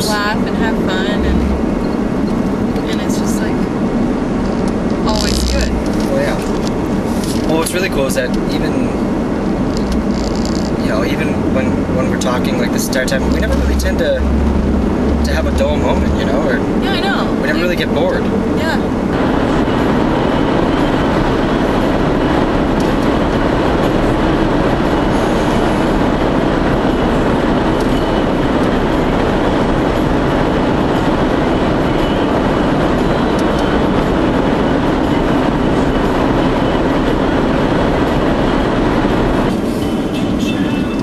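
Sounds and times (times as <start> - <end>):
car road and engine drone: 0.0 - 41.0.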